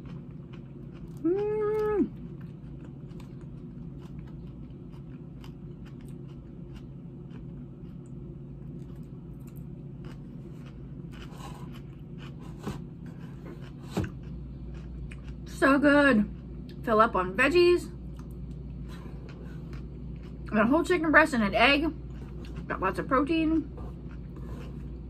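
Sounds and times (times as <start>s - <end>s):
chewing crunchy salad: 0.0s - 16.8s, 17.9s - 21.0s, 21.8s - 25.0s
steady low hum: 0.0s - 25.0s.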